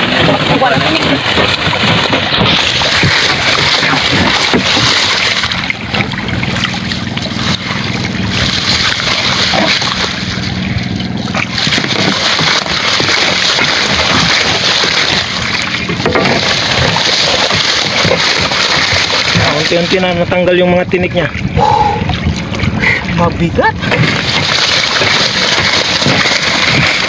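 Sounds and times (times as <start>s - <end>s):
sea water splashing and sloshing: 0.0s - 27.0s.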